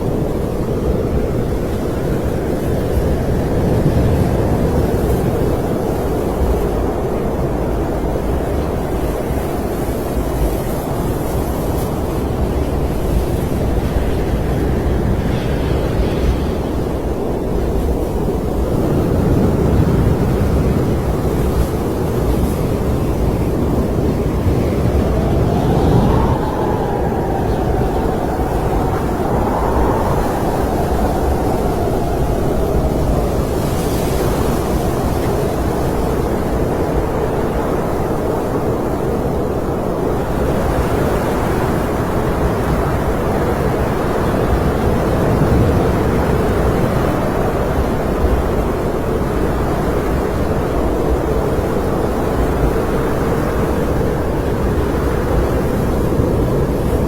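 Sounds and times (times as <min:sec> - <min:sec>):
howling snowstorm wind: 0:00.0 - 0:57.0.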